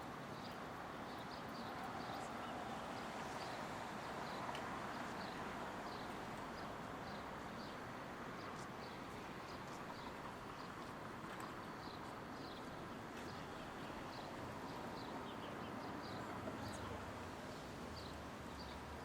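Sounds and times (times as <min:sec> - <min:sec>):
city street ambience hum: 0:00.0 - 0:19.0.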